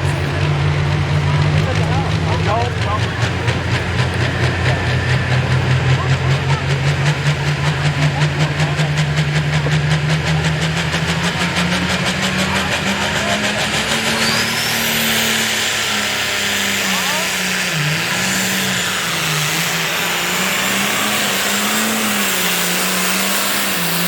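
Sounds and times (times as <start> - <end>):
diesel engine running loud: 0.0 - 24.0.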